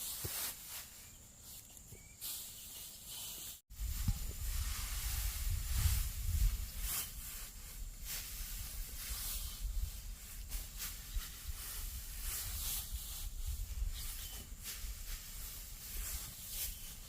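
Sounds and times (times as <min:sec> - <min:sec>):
rustling and swishing strokes: 0:00.0 - 0:17.0.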